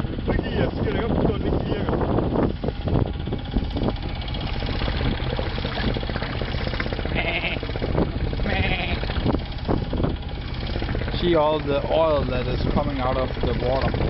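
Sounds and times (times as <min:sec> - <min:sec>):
boat engine knocking: 0:00.0 - 0:14.0.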